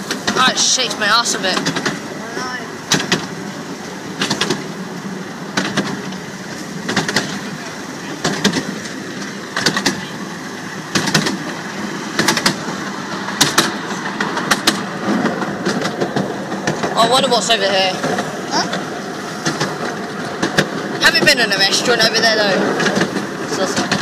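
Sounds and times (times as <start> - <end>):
train running rumble: 0.0 - 24.0
train wheels clacking over rail joints: 0.0 - 24.0.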